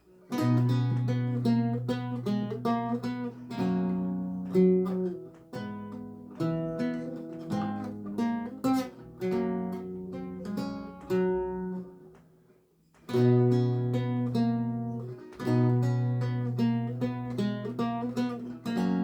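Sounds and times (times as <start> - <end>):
plucked lute music: 0.0 - 19.0.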